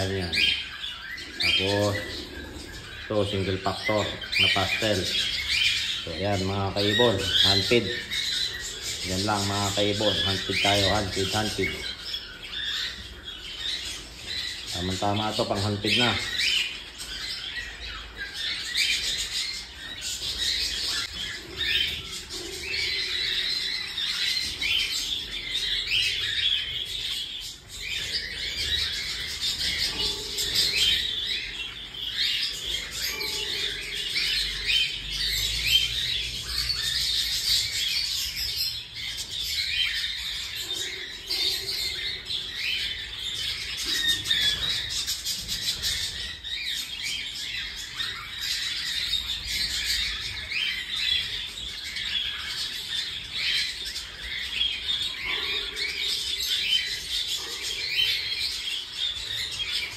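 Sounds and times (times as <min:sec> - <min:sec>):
chicks squawking chirps: 0:00.0 - 0:59.9.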